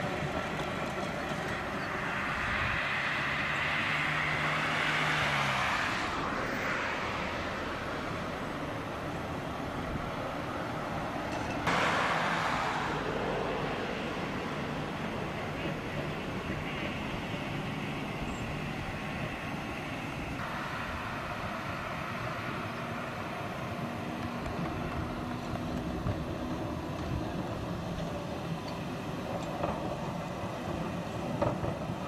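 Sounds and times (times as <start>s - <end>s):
electric tram rumbling: 0.0s - 32.0s
road traffic passing: 0.0s - 32.0s.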